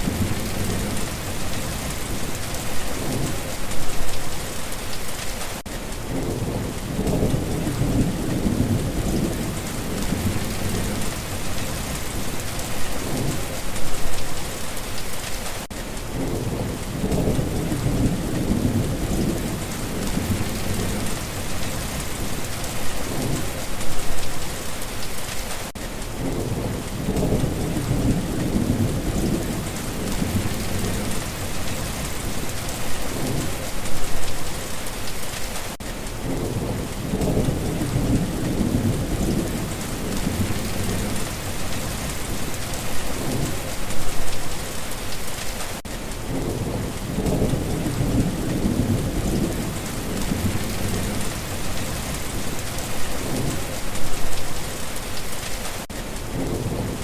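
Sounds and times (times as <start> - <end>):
thunder rumbling: 0.0 - 4.5, 6.0 - 14.7, 16.1 - 25.3, 26.2 - 34.7, 36.1 - 44.7, 46.2 - 55.0
rain hissing: 0.0 - 57.0.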